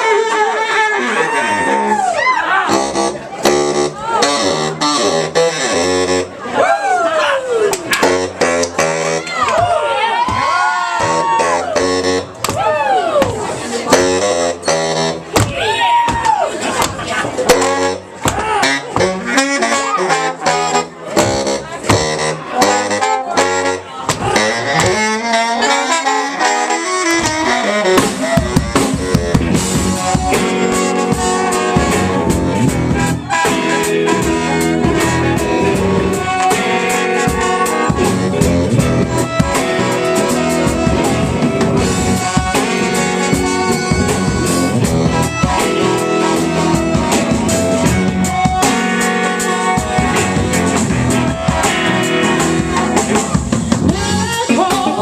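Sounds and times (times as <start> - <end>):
drum kit beat: 2.7 - 6.2, 7.8 - 55.0
horn section holding chords: 2.7 - 6.5, 8.0 - 9.3, 11.0 - 12.4, 13.8 - 15.4, 17.5 - 55.0
band playing instrumental rock: 2.7 - 6.6, 7.7 - 9.8, 10.4 - 55.0.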